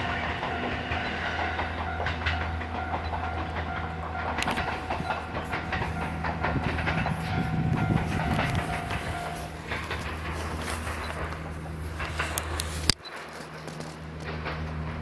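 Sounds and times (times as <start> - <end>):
crossing warning bell ringing: 0.0 - 15.0
train rumbling past: 0.0 - 15.0
wheels clicking over rail joints: 0.0 - 15.0.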